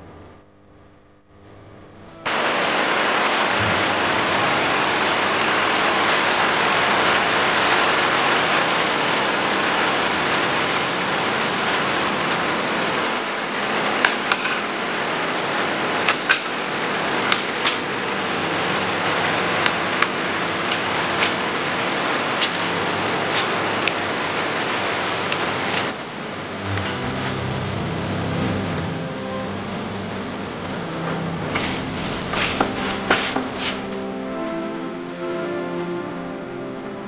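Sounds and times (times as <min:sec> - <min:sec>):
steady hiss: 0:02.0 - 0:37.0.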